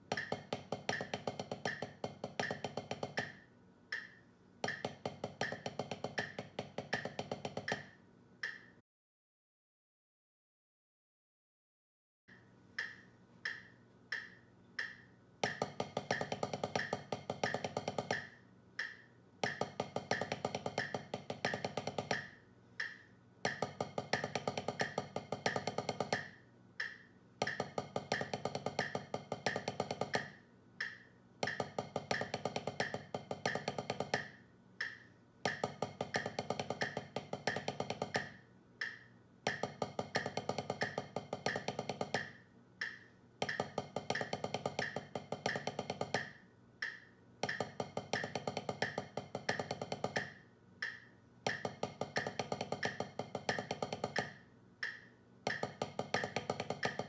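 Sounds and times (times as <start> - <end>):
drumsticks on practice pad: 0.0 - 8.8, 12.3 - 57.0
metronome clicking: 0.1 - 8.8, 12.3 - 57.0.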